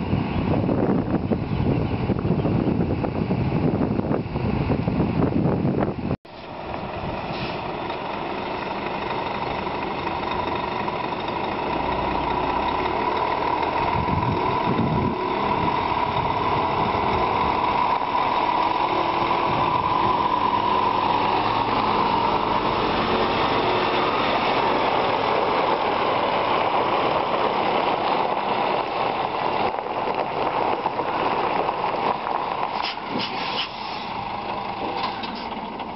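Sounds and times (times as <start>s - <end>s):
diesel truck engine pulling away: 0.0s - 35.9s
steady engine whine: 0.0s - 35.9s.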